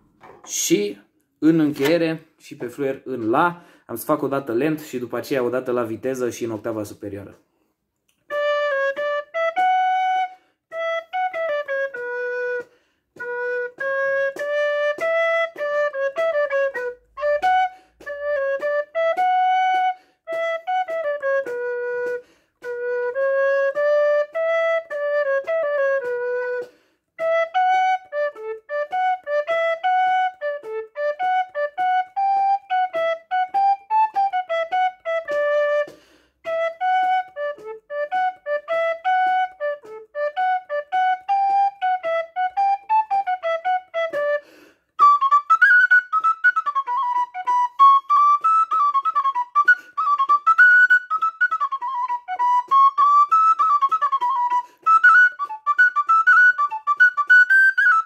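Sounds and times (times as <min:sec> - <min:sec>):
wooden flute dance melody: 0:00.0 - 0:07.4, 0:08.1 - 0:58.0.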